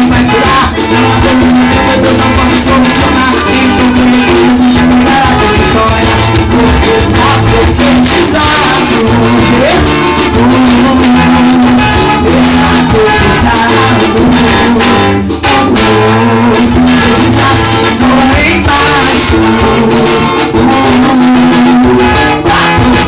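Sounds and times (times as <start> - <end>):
gospel band music: 0.0 - 23.0
singing: 0.0 - 23.0.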